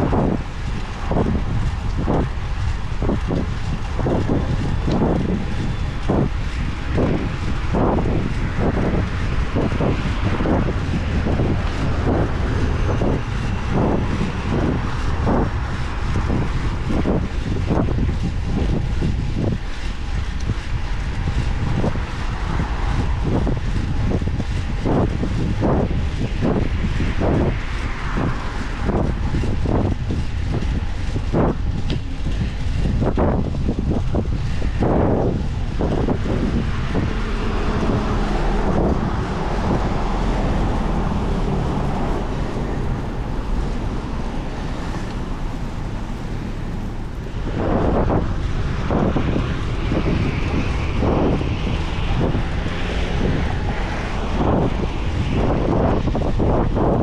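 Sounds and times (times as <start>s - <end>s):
road and traffic rush: 0.0s - 57.0s
wind buffeting microphone: 0.0s - 57.0s.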